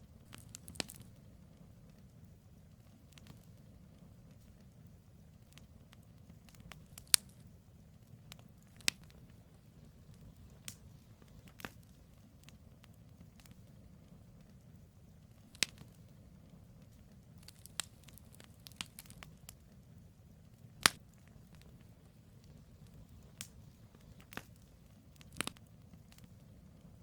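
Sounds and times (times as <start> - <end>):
campfire crackles and pops: 0.0 - 27.0
fire low rumble: 0.0 - 27.0.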